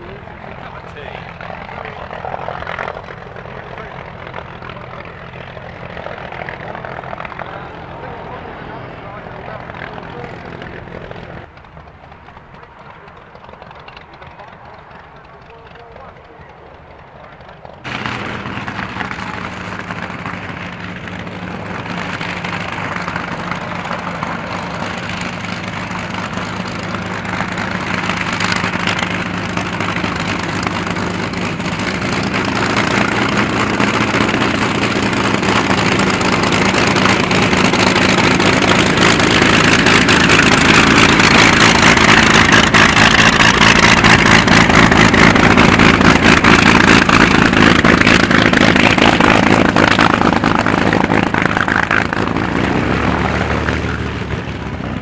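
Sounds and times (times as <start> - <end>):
aircraft piston engine droning: 0.0 - 55.0.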